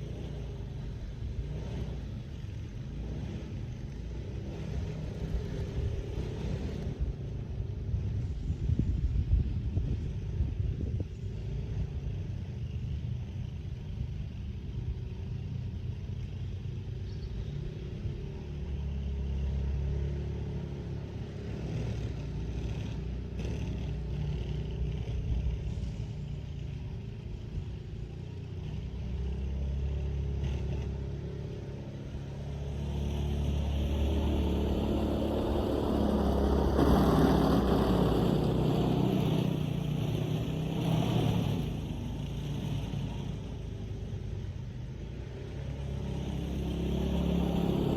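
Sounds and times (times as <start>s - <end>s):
vehicle engine rumbling: 0.0s - 47.9s.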